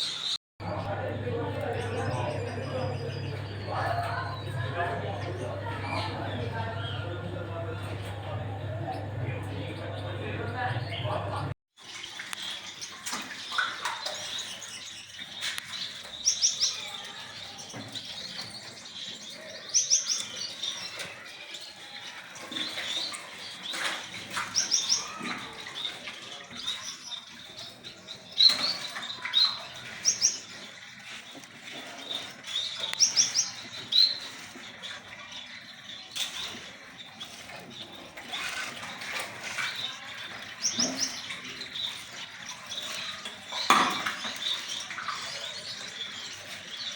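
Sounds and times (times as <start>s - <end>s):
parrots chirping: 0.0s - 46.9s.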